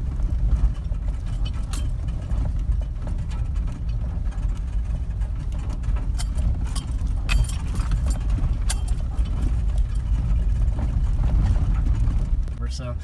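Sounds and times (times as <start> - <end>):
clicks and rattles over rocks: 0.0 - 12.6
engine and tyres rumbling: 0.0 - 13.0.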